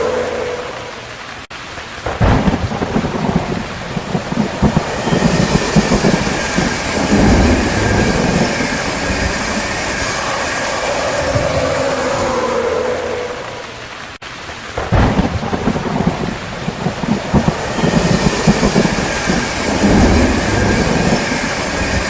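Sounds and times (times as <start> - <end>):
heavy rain: 0.0 - 22.0
thunder rumbling: 0.0 - 22.0.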